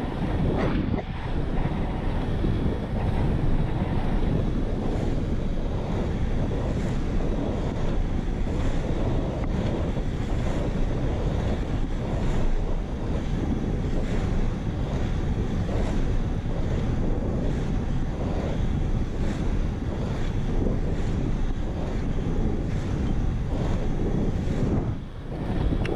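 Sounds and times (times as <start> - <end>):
skate wheels rolling on asphalt: 0.0 - 25.9
wind on camera microphone: 0.0 - 25.9.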